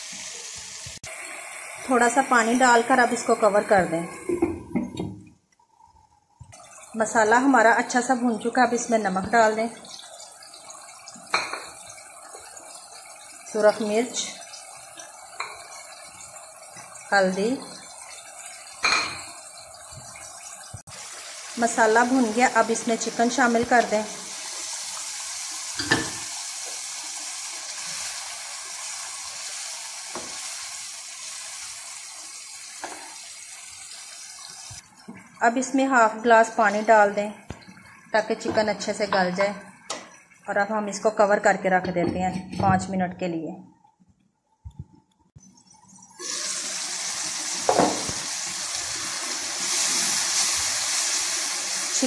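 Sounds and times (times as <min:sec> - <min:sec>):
chicken sizzling in oil: 0:00.0 - 0:04.5, 0:06.9 - 0:39.2, 0:45.6 - 0:52.0.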